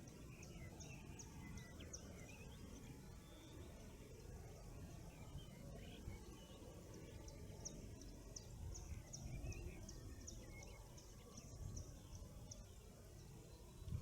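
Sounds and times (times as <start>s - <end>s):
birds chirping softly: 0.0s - 14.0s.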